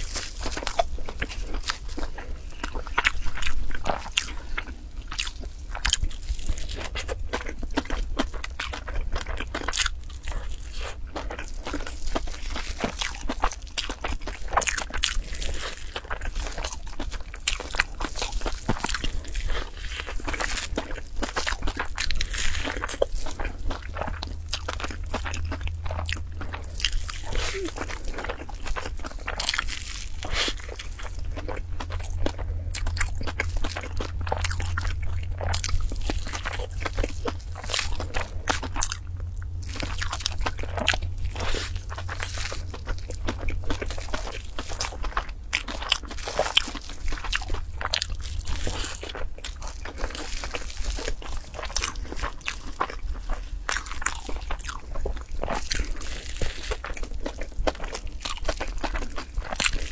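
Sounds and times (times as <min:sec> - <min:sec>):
crunchy food being chewed: 0:00.0 - 0:59.9
steady low hum: 0:00.0 - 0:59.9.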